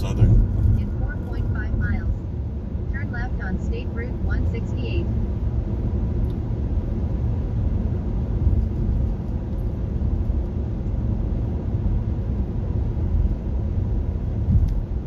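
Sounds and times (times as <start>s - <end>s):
car tyre and road noise: 0.0s - 15.0s.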